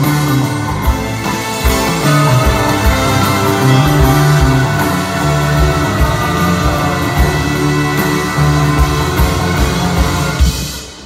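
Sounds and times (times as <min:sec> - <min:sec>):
held string chords: 0:00.0 - 0:10.6
steady low beats: 0:00.0 - 0:11.0.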